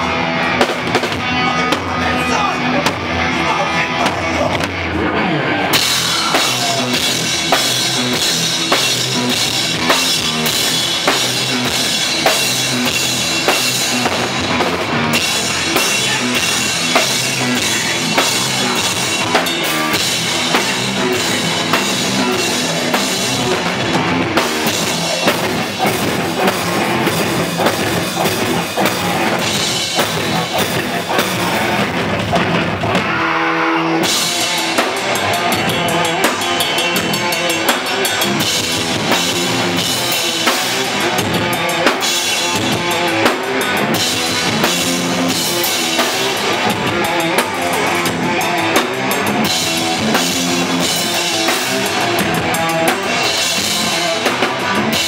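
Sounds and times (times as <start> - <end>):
bass guitar: 0.0 - 55.0
distorted electric guitars: 0.0 - 55.0
fast drum beat with cymbals: 5.7 - 33.1, 34.0 - 55.0.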